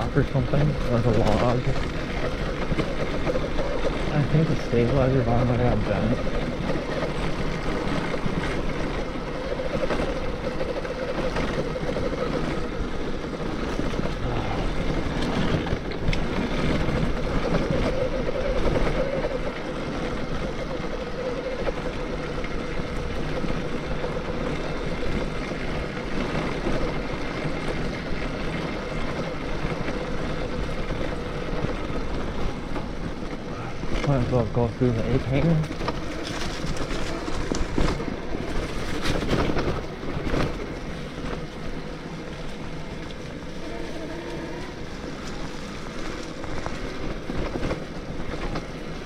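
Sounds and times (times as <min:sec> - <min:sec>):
electric bike motor whining: 0:00.0 - 0:49.0
tyre and trail noise: 0:00.0 - 0:49.0.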